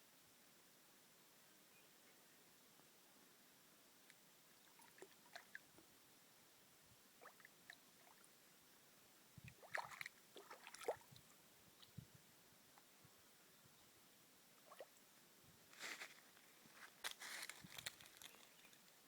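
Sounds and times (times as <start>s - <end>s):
quiet hiss: 0.0s - 19.0s.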